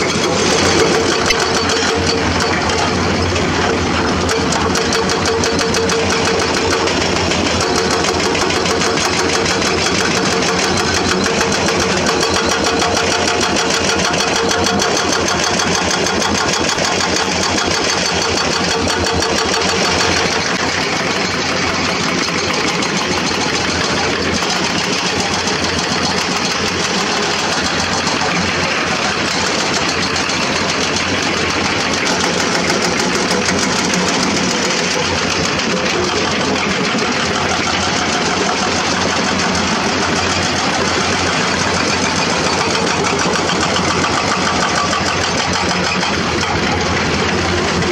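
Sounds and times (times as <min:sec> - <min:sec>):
diesel engine running: 0:00.0 - 0:47.9
hydraulic rock breaker hammering: 0:00.0 - 0:47.9.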